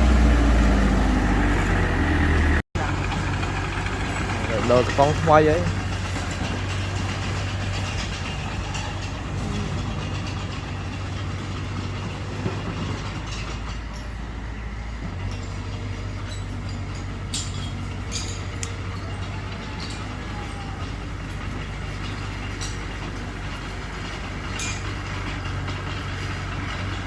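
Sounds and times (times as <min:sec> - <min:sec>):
bulldozer diesel engine running: 0:00.0 - 0:27.0
sharp metal clanks: 0:04.0 - 0:27.0.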